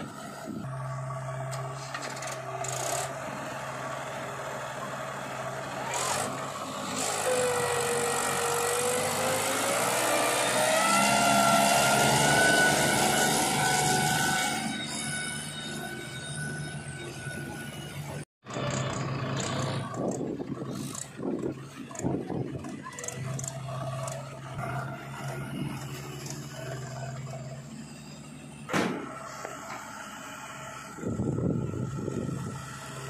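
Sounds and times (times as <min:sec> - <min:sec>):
engine whine rising in pitch: 0:00.0 - 0:33.0
tractor diesel engine: 0:00.0 - 0:33.0.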